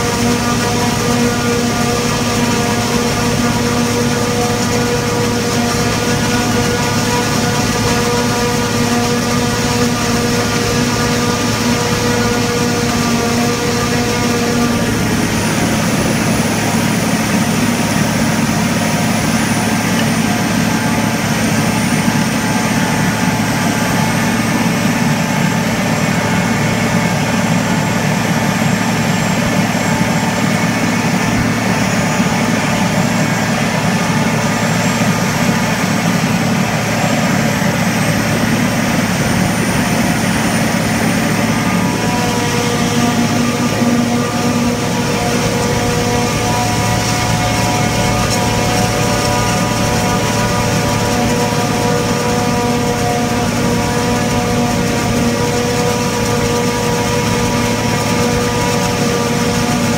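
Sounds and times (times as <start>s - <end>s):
forage harvester running: 0.0s - 59.9s
high wavering machine whine: 0.0s - 59.9s.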